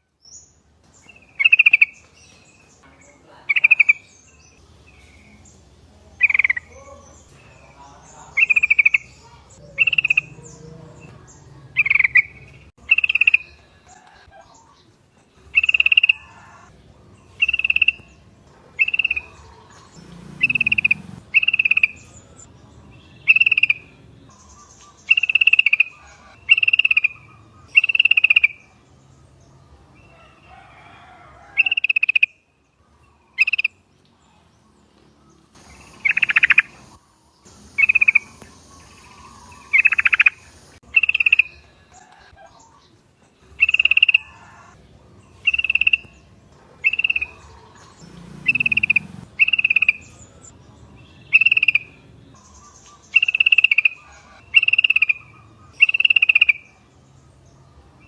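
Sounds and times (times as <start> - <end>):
bulbuls calling: 0.0 - 58.0.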